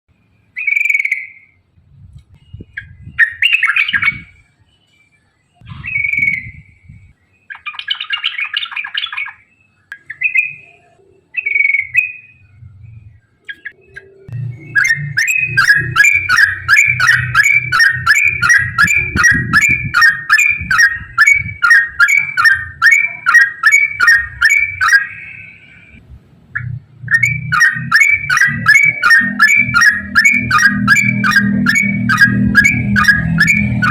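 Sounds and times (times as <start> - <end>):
bird singing: 0.1 - 1.7, 2.4 - 33.9.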